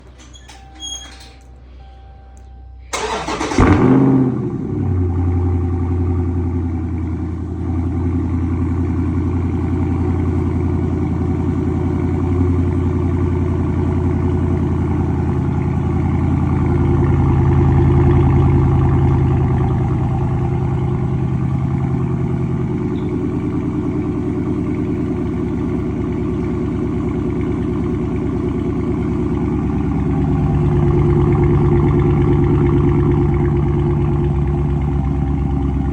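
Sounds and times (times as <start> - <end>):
car engine starting and idling: 0.0 - 35.9.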